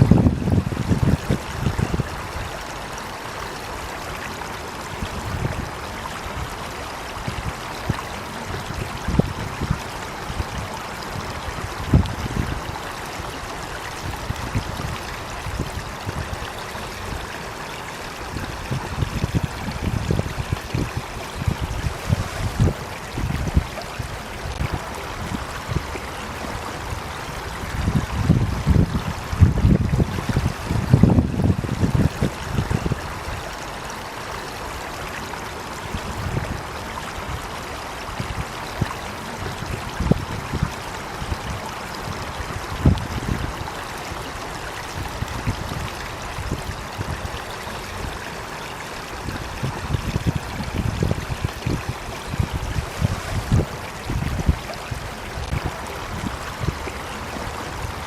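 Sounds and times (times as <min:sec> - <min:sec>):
water flowing: 0:00.0 - 0:58.0.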